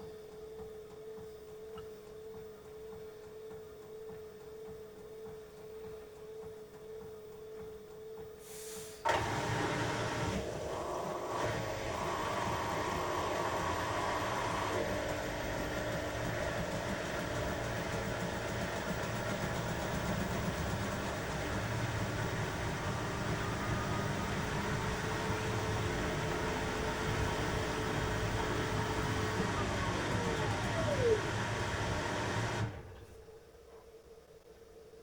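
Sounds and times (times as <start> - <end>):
washing machine humming and rumbling: 0.0 - 8.4, 9.0 - 34.0.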